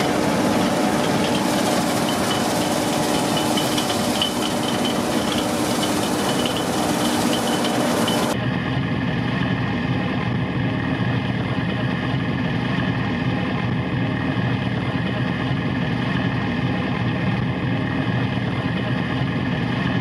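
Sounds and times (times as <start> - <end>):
combine harvester droning: 0.0 - 19.8.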